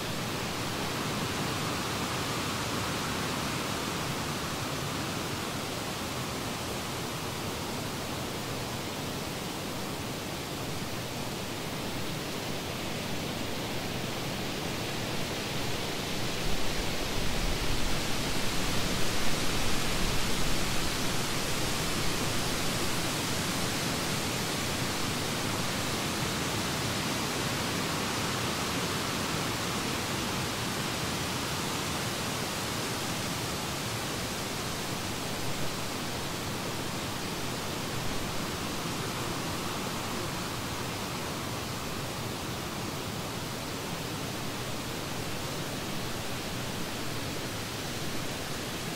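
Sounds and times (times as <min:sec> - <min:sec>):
steady rushing hiss: 0:00.0 - 0:48.9.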